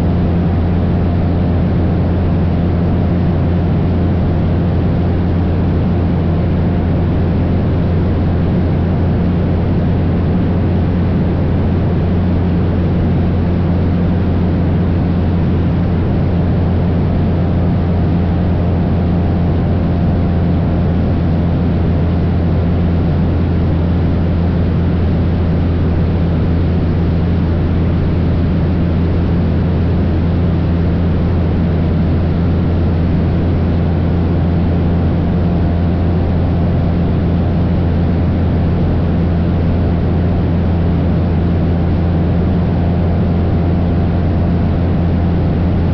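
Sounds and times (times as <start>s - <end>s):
propeller plane engine droning: 0.0s - 45.9s.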